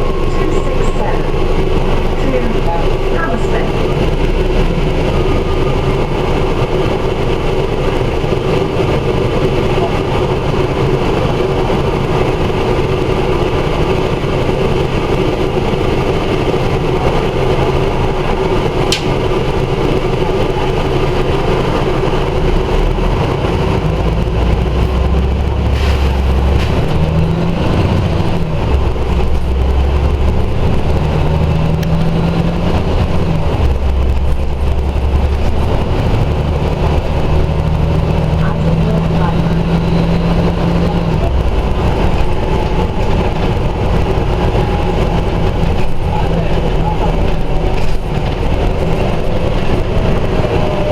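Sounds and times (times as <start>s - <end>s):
bus engine accelerating: 0.0s - 50.9s.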